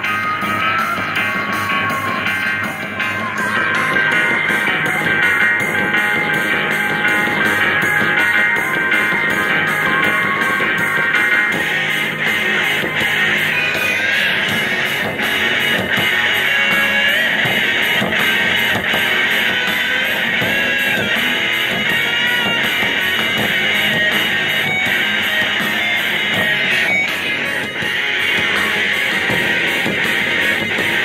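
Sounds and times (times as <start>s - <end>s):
rock music with electric guitar: 0.0s - 31.0s.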